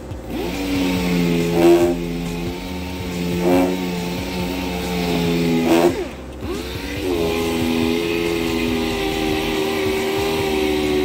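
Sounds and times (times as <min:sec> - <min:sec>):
orbital sander running: 0:00.0 - 0:11.0.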